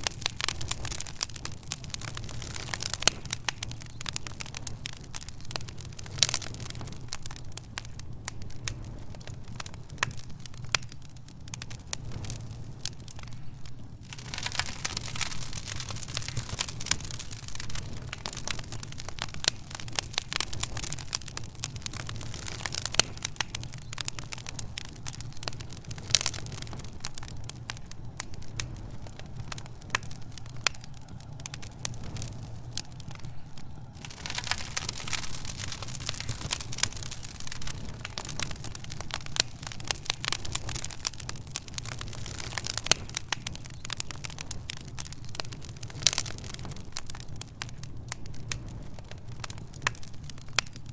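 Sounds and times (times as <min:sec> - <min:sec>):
low steady rumble: 0:00.0 - 0:42.3
fireplace fire crackling: 0:00.0 - 0:50.9.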